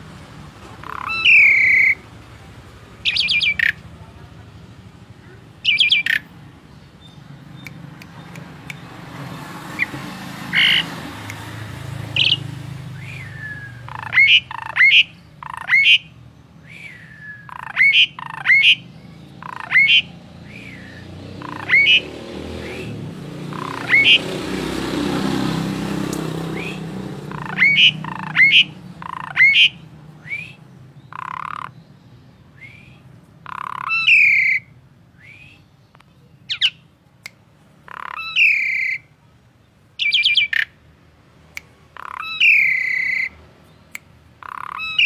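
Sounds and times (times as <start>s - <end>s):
songbird sharp calls: 0.8s - 2.1s, 3.0s - 3.9s, 5.2s - 9.0s, 9.7s - 24.4s, 26.4s - 36.9s, 37.8s - 39.2s, 40.0s - 40.8s, 41.6s - 45.0s.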